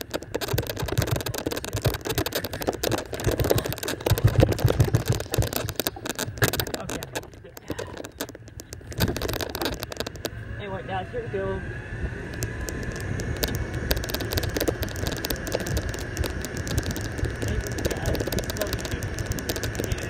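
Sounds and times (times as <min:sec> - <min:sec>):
golf cart rattling: 0:00.0 - 0:11.0, 0:12.4 - 0:20.0
golf cart low rumble: 0:00.0 - 0:20.0.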